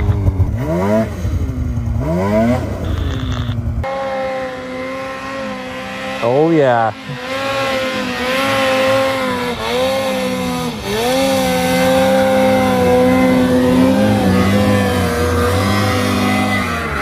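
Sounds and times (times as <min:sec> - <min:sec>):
snowmobile engine at high revs: 0:00.0 - 0:17.0.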